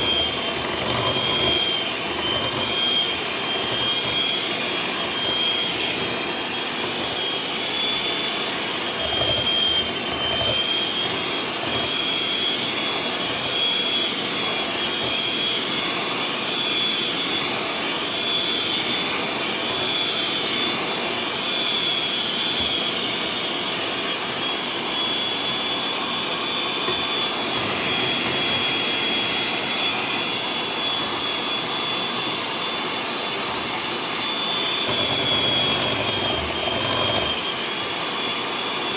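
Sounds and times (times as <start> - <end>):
electric hand mixer running: 0.0 - 38.9.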